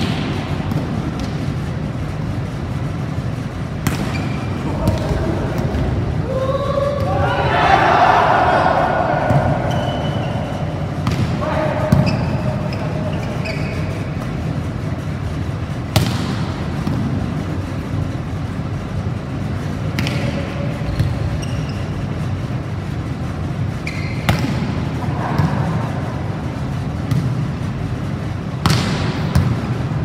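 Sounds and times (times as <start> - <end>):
steady background hum: 0.0 - 30.0
volleyball slaps echoing in hall: 0.0 - 30.0.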